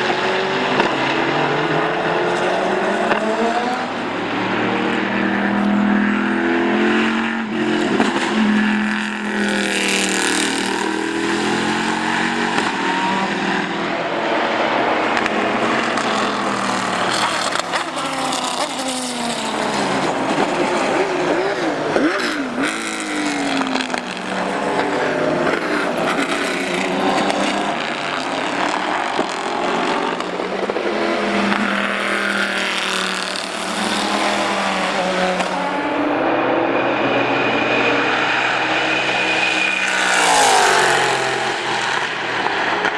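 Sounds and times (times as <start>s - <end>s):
racing car engine revving: 0.0s - 42.9s.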